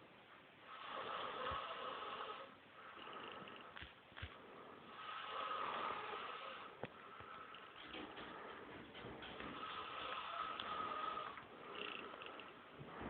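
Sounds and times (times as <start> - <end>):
slow snoring: 0.6 - 3.8, 4.4 - 13.0.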